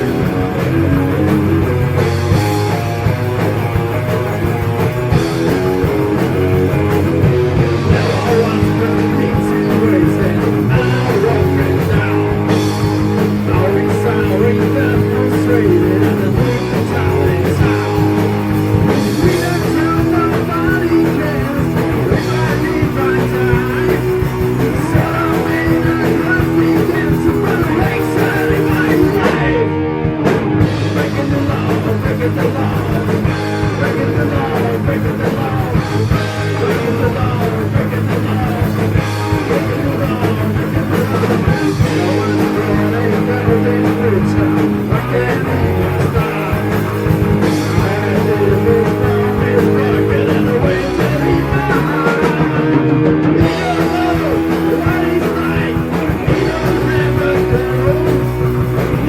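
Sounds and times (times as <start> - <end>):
heavy metal band playing: 0.0 - 59.0.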